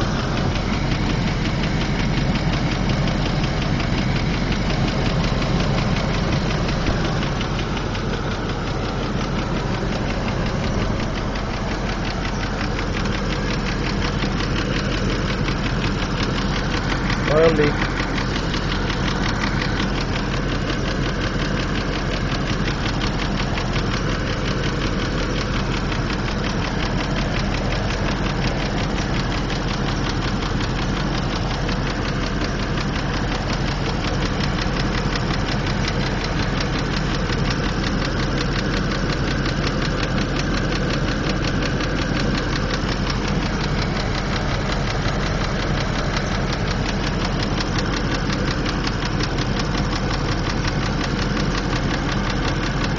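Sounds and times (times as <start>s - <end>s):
engine idling with rapid ticking: 0.0s - 52.9s.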